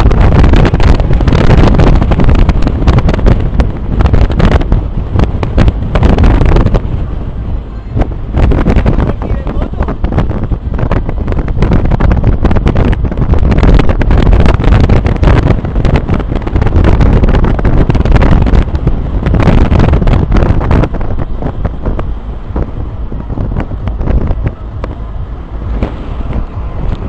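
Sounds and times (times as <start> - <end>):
skateboard wheels rolling on asphalt: 0.0 - 9.1, 10.0 - 27.0
wind buffeting microphone: 0.0 - 27.0.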